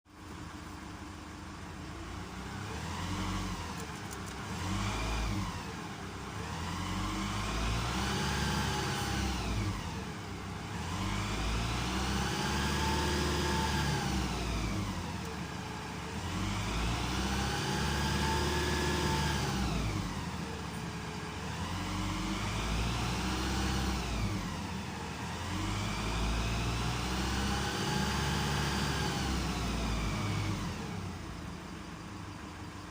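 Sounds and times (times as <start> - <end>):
diesel engine revving: 1.8 - 32.9.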